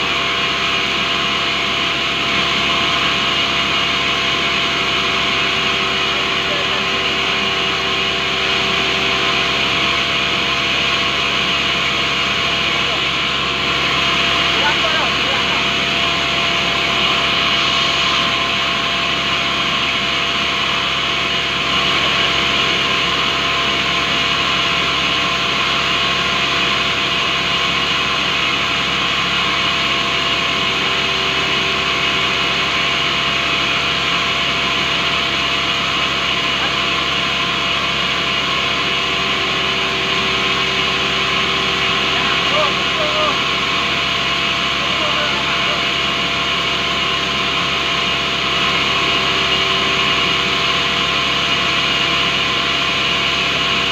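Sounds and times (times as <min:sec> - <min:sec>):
band saw whining drone: 0:00.0 - 0:53.9.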